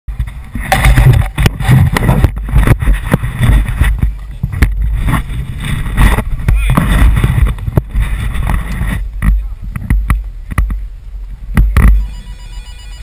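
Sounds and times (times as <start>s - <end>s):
sharp knocks and rustling of gear: 0.1s - 10.9s
wind buffeting microphone: 0.1s - 12.1s.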